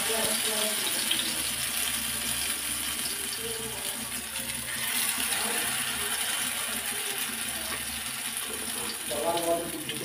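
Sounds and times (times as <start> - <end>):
fritters sizzling in hot oil: 0.0 - 10.0.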